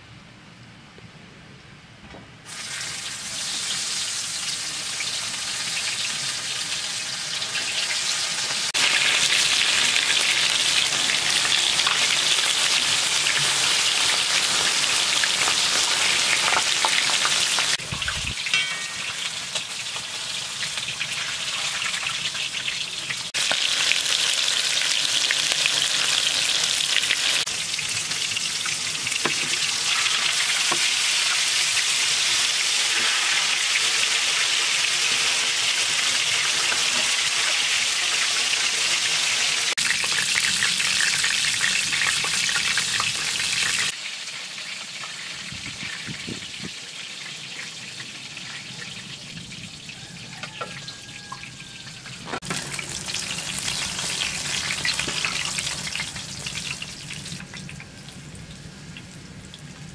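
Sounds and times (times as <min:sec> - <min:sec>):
fish frying in hot oil: 0:02.5 - 0:59.9.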